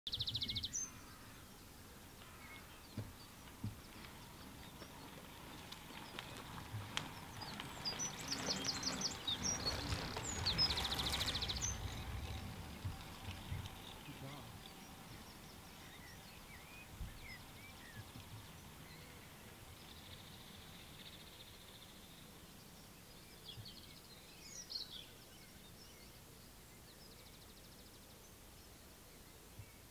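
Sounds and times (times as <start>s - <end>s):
forest birds chirping: 0.0s - 29.9s.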